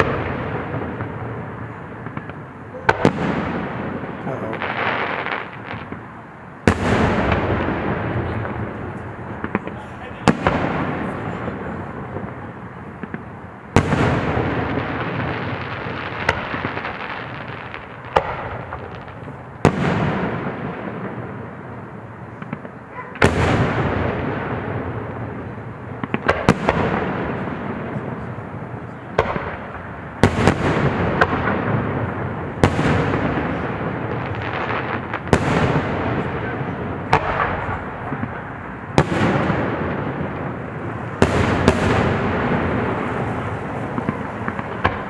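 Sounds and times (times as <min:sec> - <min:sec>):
rumbling crackling firework tails: 0:00.0 - 0:45.0.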